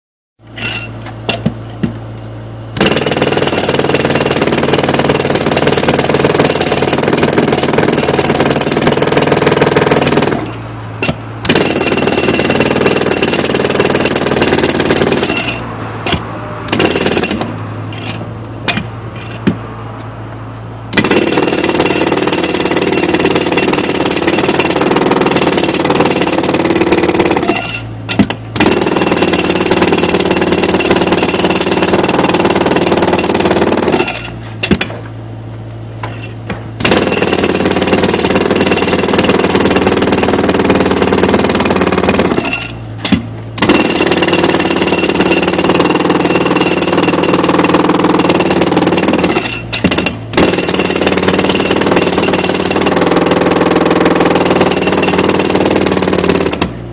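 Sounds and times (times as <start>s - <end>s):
jackhammer hammering concrete: 2.8s - 18.1s, 20.9s - 34.4s, 36.8s - 42.8s, 43.6s - 56.8s.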